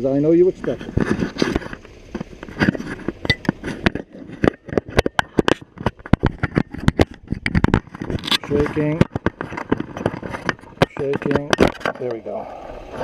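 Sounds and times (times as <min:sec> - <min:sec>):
sandblast gun clicks and knocks: 0:01.6 - 0:12.2.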